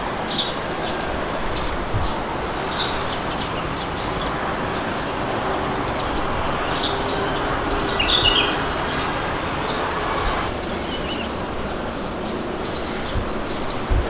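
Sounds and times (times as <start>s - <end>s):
rushing wind: 0.0s - 14.0s
small birds chirping: 0.0s - 14.0s.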